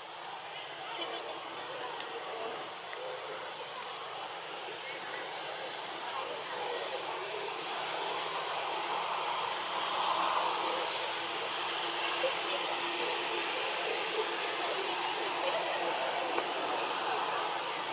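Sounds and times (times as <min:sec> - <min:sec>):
hiss-like background noise: 0:00.0 - 0:17.9.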